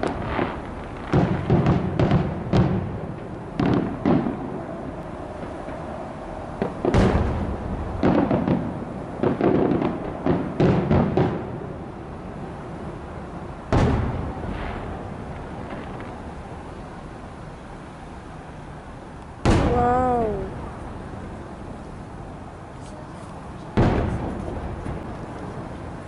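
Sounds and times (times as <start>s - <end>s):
fireworks booming: 0.0s - 17.0s, 19.4s - 21.8s, 23.7s - 26.0s.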